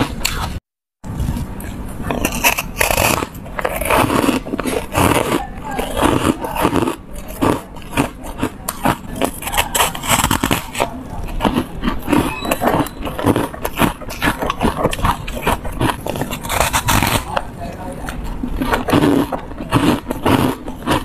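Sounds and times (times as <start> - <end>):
crunching frozen ice: 1.2 - 21.0.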